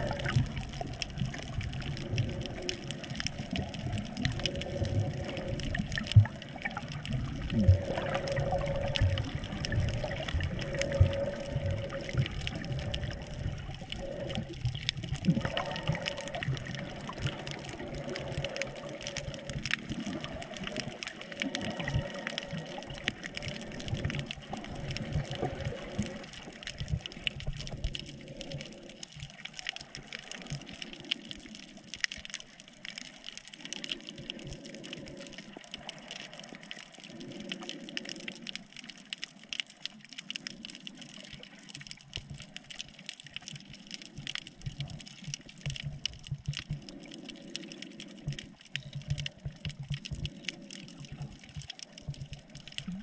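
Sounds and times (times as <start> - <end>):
small crackling clicks: 0.0 - 53.0
underwater water wash: 0.0 - 53.0.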